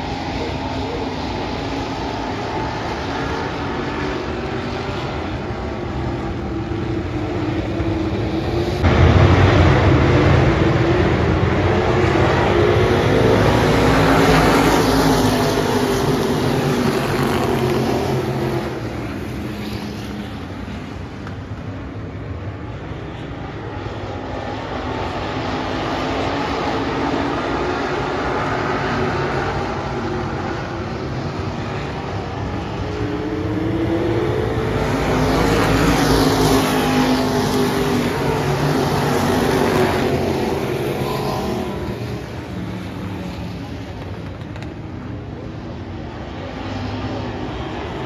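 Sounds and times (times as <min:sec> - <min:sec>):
race car engines blaring: 0:00.0 - 0:48.0.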